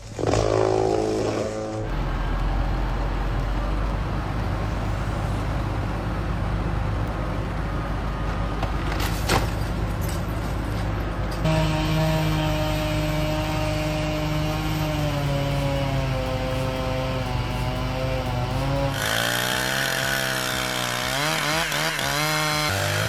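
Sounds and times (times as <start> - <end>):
heavy vehicle engine rumbling: 0.0 - 23.0.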